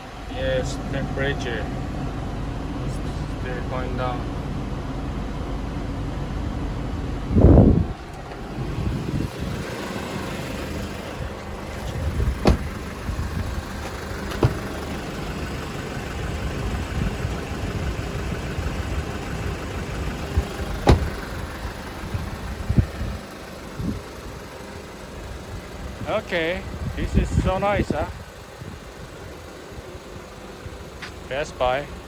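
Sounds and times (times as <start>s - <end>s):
truck engine rumbling: 0.0s - 32.0s.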